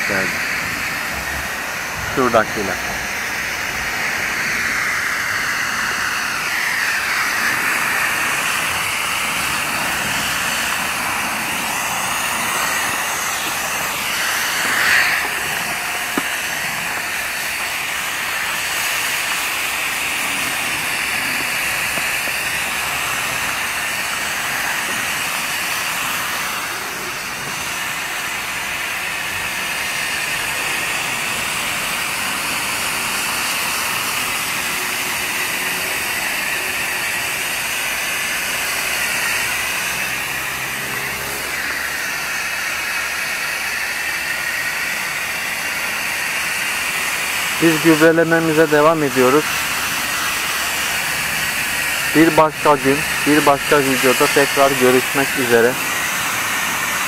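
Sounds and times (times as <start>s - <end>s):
sprayer nozzle hissing: 0.0s - 57.0s.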